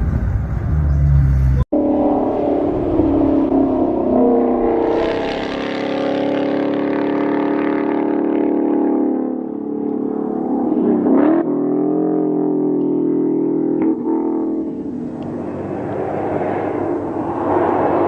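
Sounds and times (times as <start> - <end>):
car engine running hard: 0.1 - 18.0.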